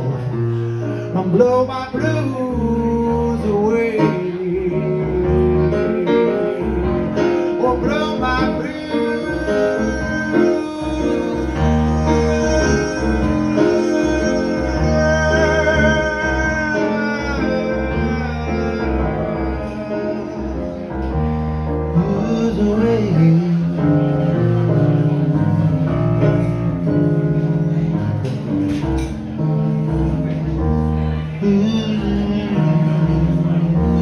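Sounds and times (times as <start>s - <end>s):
keyboard bass and chords: 0.0s - 34.0s
sliding blues lead line: 0.0s - 34.0s.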